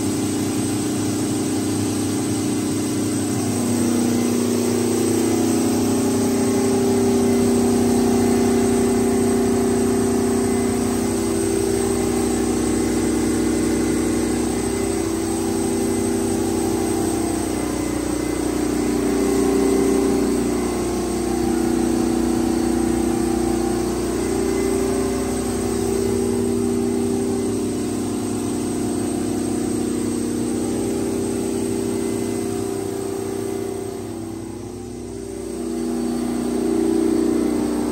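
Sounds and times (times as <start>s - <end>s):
diesel generator running: 0.0s - 37.9s.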